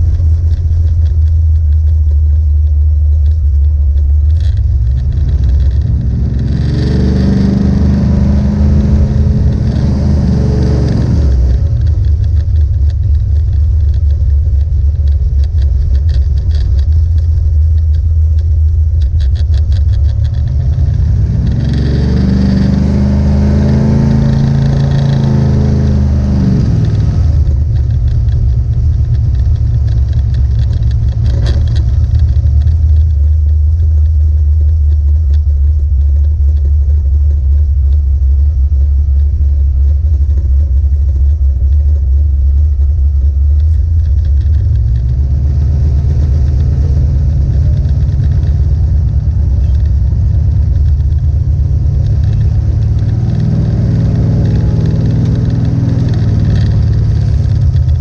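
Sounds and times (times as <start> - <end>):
car engine rumble from cabin: 0.0 - 58.0.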